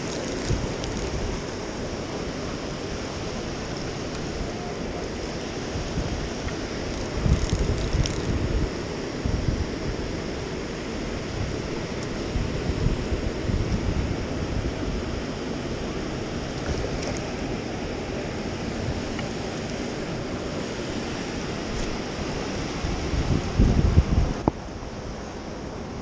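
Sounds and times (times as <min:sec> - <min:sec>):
surf on a rocky shore: 0:00.0 - 0:26.0
wind buffeting the microphone: 0:00.0 - 0:26.0.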